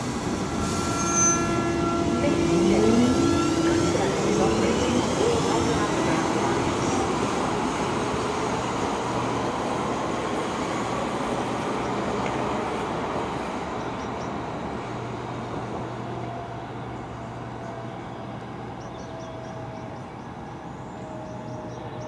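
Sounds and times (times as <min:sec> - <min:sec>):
underground train rumbling away: 0:00.0 - 0:22.0.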